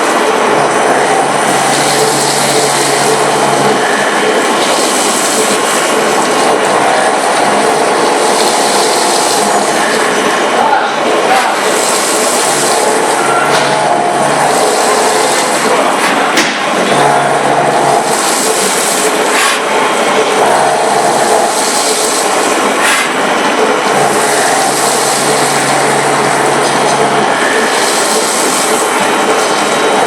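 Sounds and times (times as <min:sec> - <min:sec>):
milling machine cutting: 0:00.0 - 0:30.0.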